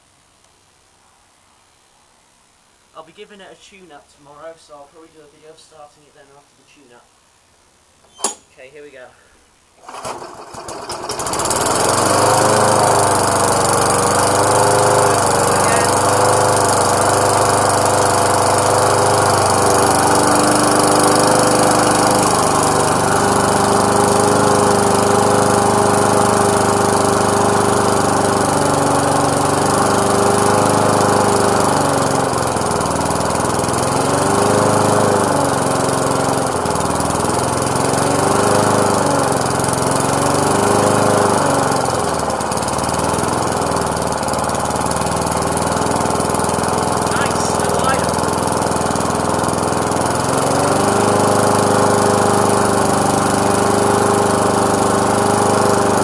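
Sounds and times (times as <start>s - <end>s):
lawnmower engine running: 9.8s - 56.0s.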